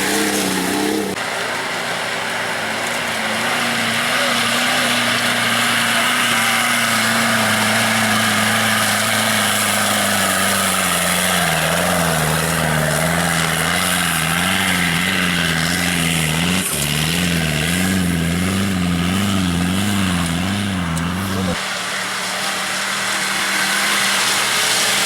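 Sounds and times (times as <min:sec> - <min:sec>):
off-road engine revving under load: 0:00.0 - 0:25.0.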